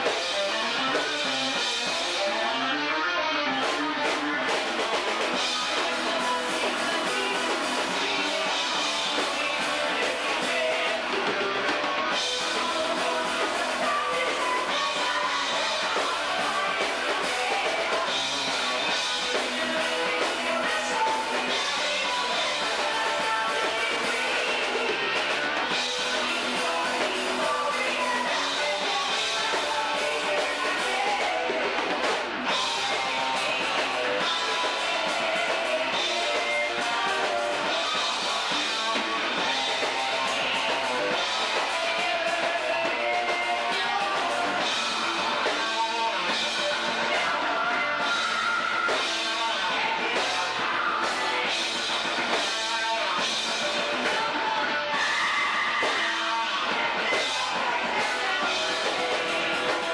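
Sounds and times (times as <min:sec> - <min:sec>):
drum kit: 0:00.0 - 0:59.9
electric guitar: 0:00.0 - 0:59.9
person singing into a microphone: 0:00.0 - 0:59.9.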